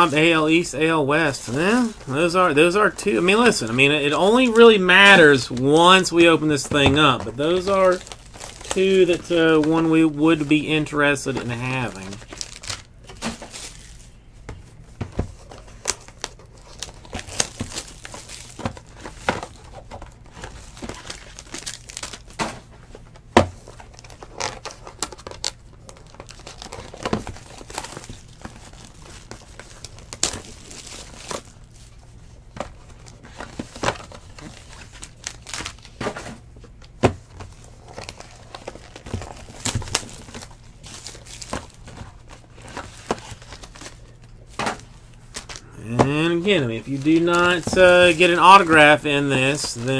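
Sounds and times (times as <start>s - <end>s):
wrappers crinkling and tearing: 7.2s - 14.2s, 15.4s - 22.4s, 23.0s - 32.1s, 32.7s - 49.9s.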